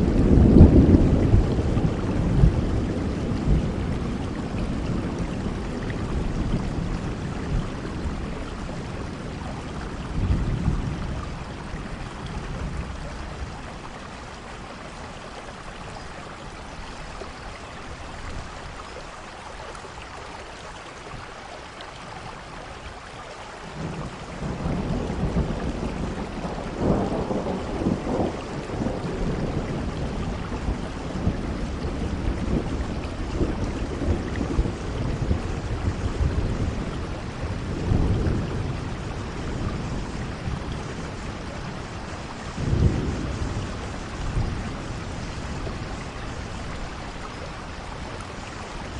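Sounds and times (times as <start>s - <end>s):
rolling thunder rumbles: 0.0s - 18.8s, 23.7s - 48.9s
steady rainfall: 0.0s - 48.9s.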